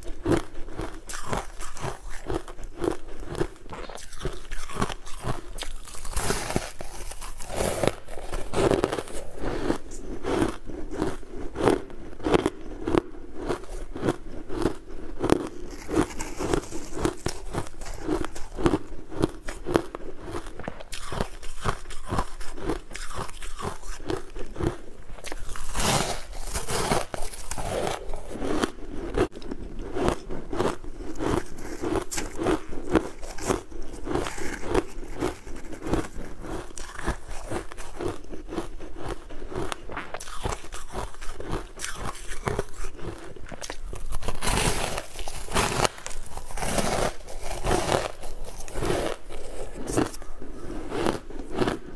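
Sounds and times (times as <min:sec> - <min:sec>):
chewing ice crunches: 0:00.0 - 0:51.9.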